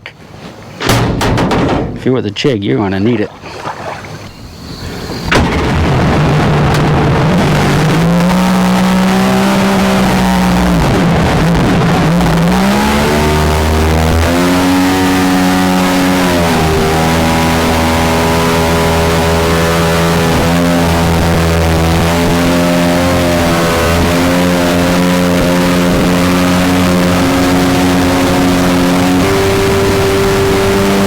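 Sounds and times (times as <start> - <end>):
jet boat engine running hard: 3.4 - 31.0.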